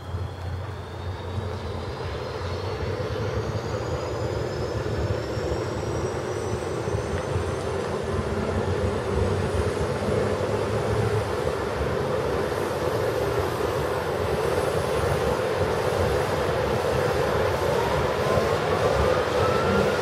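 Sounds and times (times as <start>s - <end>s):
helicopter engines and rotors running: 0.0s - 20.0s
high turbine whine: 0.0s - 20.0s.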